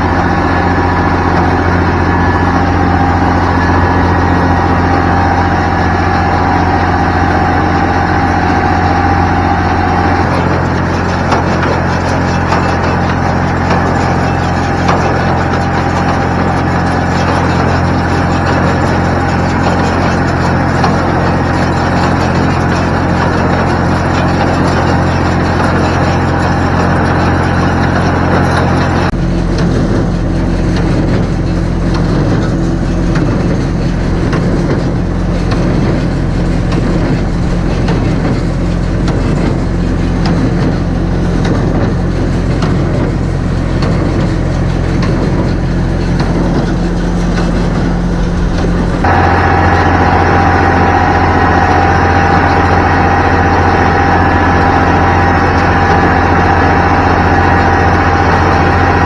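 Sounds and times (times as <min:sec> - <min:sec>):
hay baler working: 0:00.0 - 0:59.0
tractor diesel engine running: 0:00.0 - 0:59.0.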